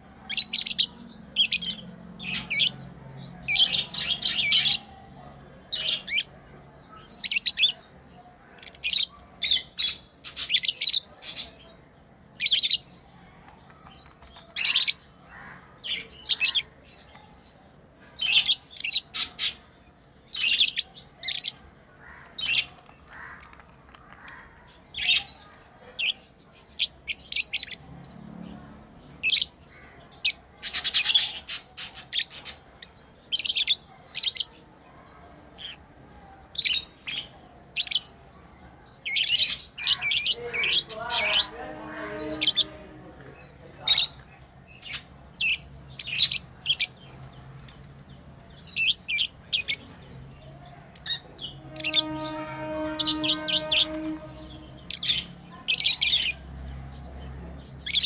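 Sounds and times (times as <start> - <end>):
lovebirds chirping: 0.0 - 58.0.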